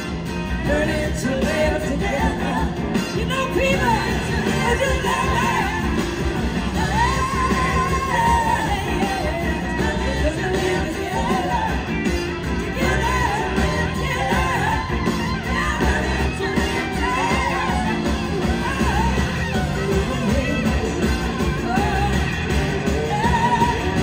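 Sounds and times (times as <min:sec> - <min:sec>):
drums: 0:00.0 - 0:24.0
electric guitar: 0:00.0 - 0:24.0
woman singing: 0:00.6 - 0:06.0, 0:06.8 - 0:11.9, 0:12.7 - 0:24.0.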